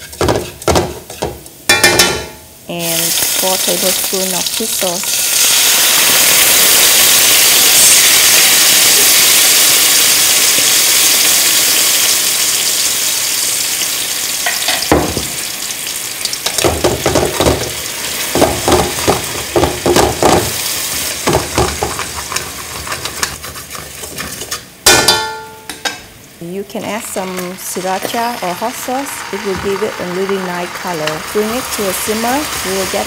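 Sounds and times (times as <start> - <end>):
sauce sizzling in hot oil: 2.7 - 24.9, 26.2 - 33.0.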